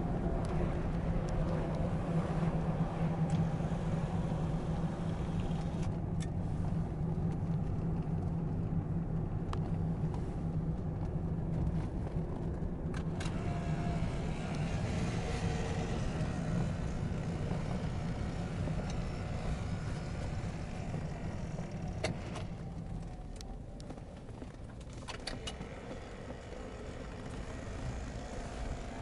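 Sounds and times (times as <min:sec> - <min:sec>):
car engine hum: 0:00.0 - 0:29.0
road noise: 0:00.0 - 0:29.0.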